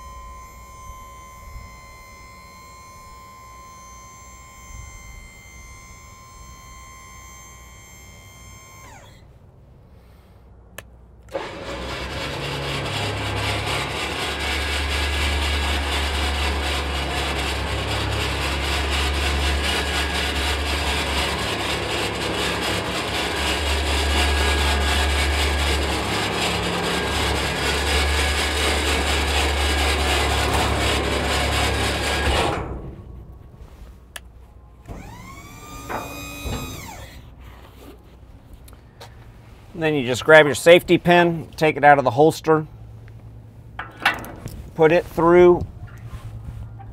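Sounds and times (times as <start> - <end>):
hydraulic hoist drone: 0.0 - 9.3, 11.3 - 34.2, 34.8 - 38.0, 43.8 - 46.1.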